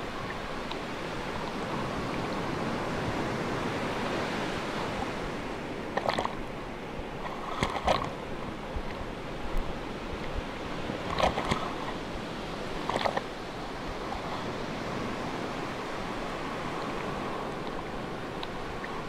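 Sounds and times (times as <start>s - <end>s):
sea waves washing: 0.0s - 19.0s.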